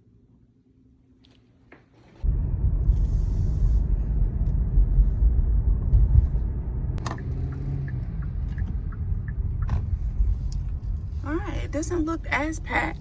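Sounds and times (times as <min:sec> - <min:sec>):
car cabin road rumble: 0:02.2 - 0:13.0.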